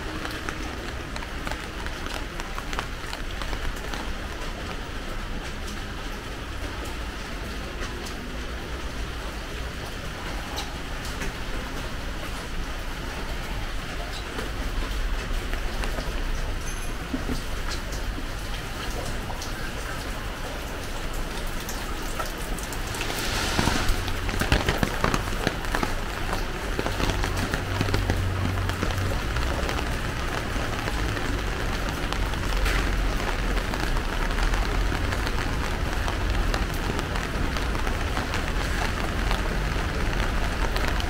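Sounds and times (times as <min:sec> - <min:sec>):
rain pattering: 0:00.0 - 0:41.0.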